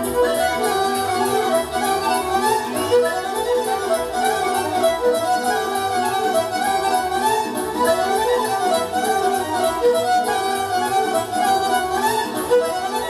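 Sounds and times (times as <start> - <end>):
keyboard backing beat: 0.0 - 13.0
pan flute melody: 0.0 - 13.0
violin melody: 0.0 - 13.0.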